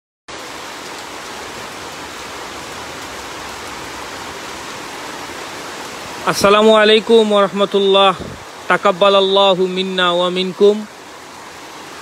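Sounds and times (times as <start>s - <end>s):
heavy rain pouring: 0.3s - 12.0s.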